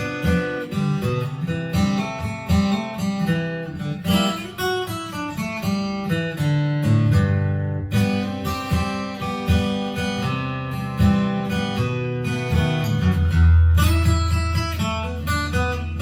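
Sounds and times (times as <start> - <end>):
blues guitar music from speaker: 0.0 - 16.0.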